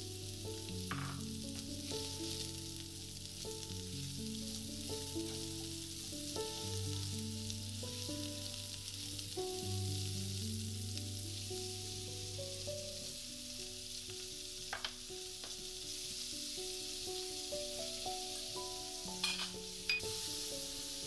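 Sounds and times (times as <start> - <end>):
food sizzling in hot oil: 0.0 - 21.0
instrumental background music: 0.0 - 21.0.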